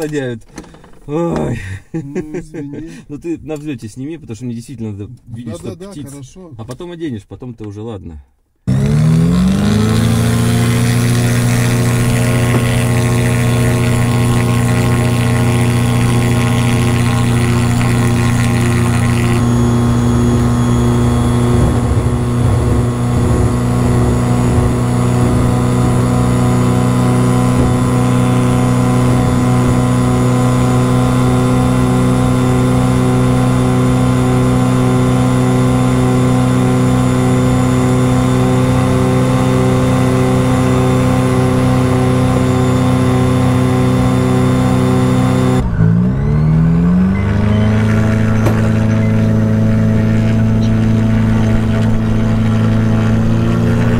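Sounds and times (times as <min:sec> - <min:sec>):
glider engine droning: 0:08.7 - 0:53.9.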